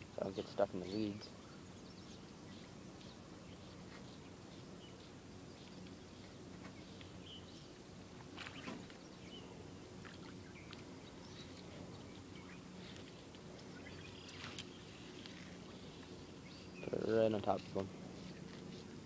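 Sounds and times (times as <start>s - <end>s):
steady low hum: 0.0s - 19.0s
small birds chirping: 0.1s - 19.0s.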